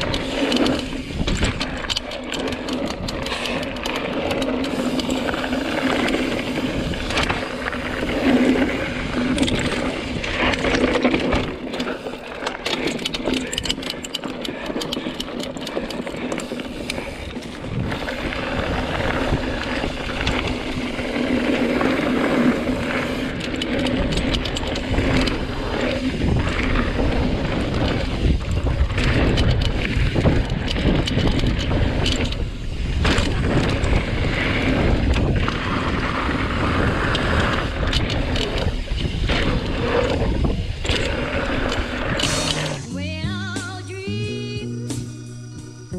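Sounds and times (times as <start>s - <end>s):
wind buffeting microphone: 0.0s - 11.7s, 16.5s - 42.4s
bike tyre and drivetrain noise: 0.0s - 42.9s
bike clicks and rattles: 0.0s - 43.8s.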